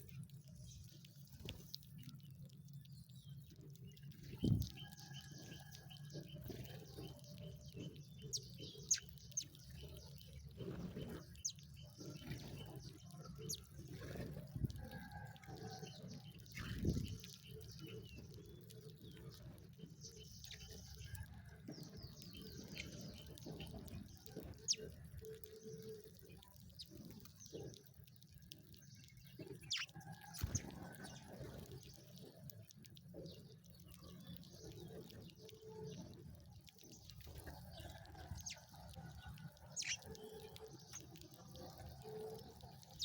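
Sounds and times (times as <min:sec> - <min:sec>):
sparrows chirping: 0:00.0 - 0:14.8, 0:15.4 - 0:43.0.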